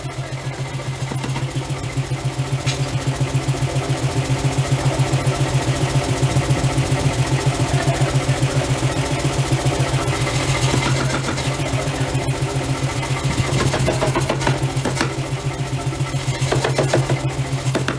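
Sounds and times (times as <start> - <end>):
machine pulsing hum: 0.0 - 17.9.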